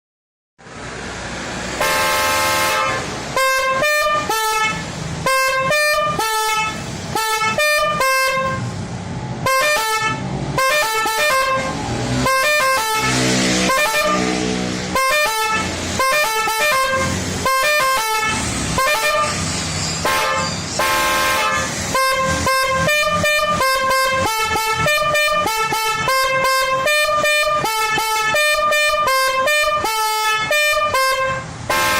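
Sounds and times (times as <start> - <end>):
bus horn tune: 1.7 - 8.8, 9.4 - 31.9.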